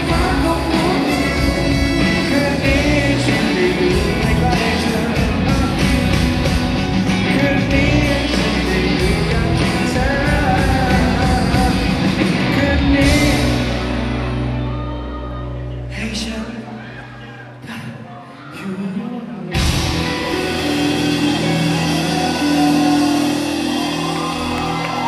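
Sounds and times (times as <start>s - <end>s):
live rock band with male singer: 0.0s - 25.0s.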